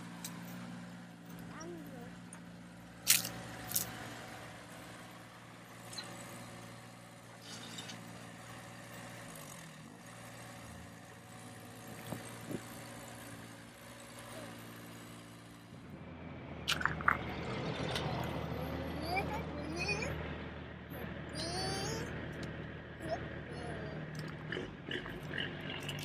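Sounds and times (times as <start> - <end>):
steady engine-like hum: 0.0 - 26.0.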